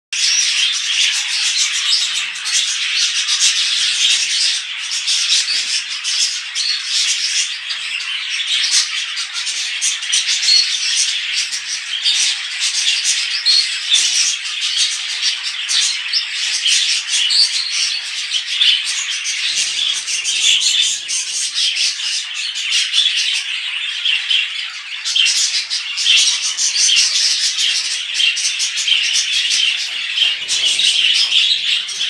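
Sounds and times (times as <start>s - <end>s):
budgerigars chattering: 0.2s - 32.0s.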